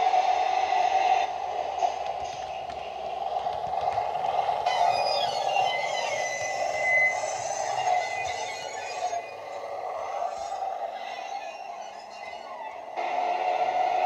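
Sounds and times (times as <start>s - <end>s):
diesel train engine running: 0.0s - 14.0s
high whine: 0.0s - 14.0s.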